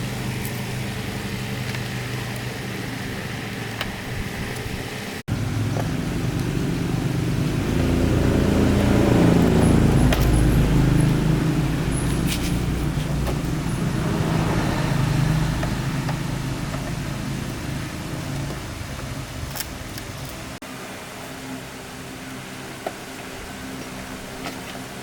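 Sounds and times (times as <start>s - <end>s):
vehicle engine humming: 0.0s - 20.7s.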